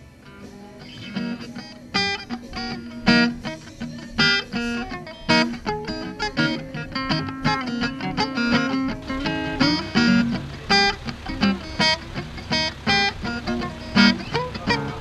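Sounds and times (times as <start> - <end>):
guitar plucked and strummed: 0.0 - 15.0.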